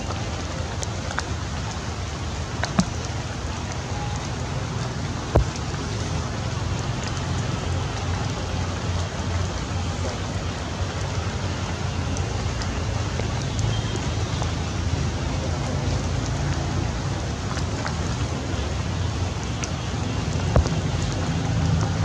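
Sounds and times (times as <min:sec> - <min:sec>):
sharp raindrop taps: 0:00.0 - 0:22.0
steady rain falling: 0:00.0 - 0:22.0.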